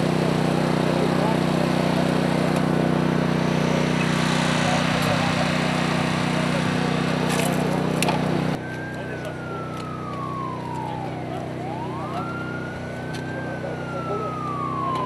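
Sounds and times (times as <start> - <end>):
emergency vehicle siren wailing: 0.0 - 15.0
engine hum: 0.0 - 15.0.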